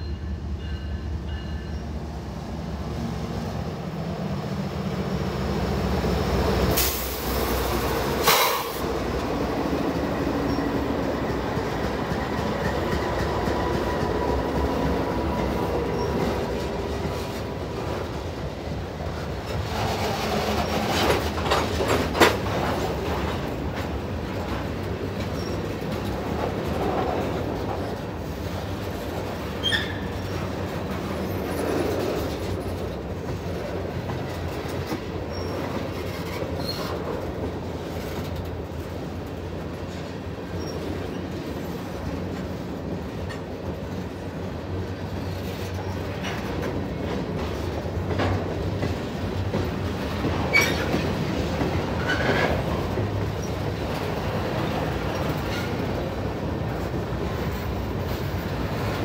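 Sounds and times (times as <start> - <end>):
freight train wheels rumbling: 0.0 - 59.0
wheels clacking over rail joints: 6.7 - 59.0.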